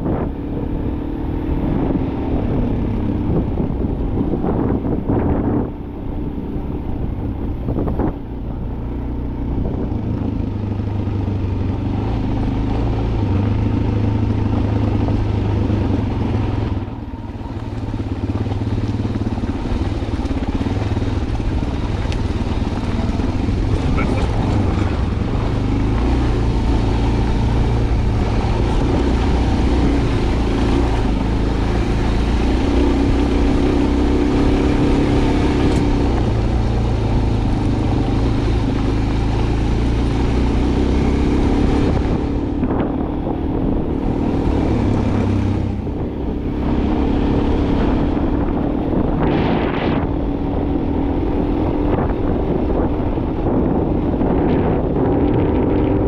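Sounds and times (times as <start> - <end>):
vehicle engine humming: 0.0 - 56.0.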